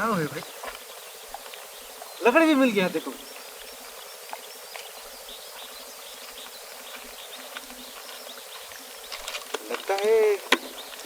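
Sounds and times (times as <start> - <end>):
insects chirping: 0.0 - 11.0
steady outdoor hiss: 0.0 - 11.0.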